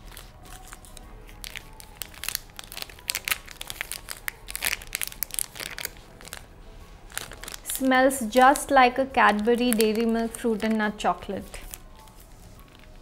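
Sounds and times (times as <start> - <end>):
plastic wrapper crinkling and tearing: 0.0 - 13.0.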